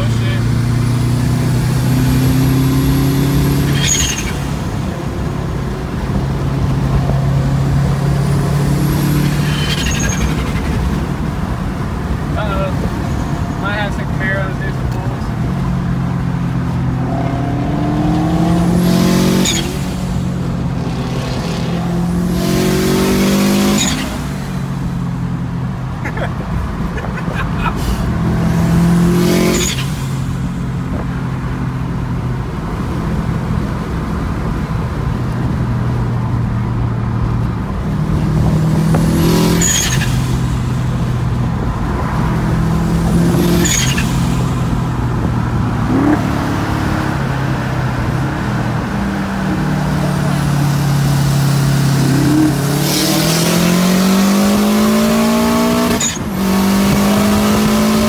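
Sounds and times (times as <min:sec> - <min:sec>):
car engine at full throttle: 0:00.0 - 0:58.0.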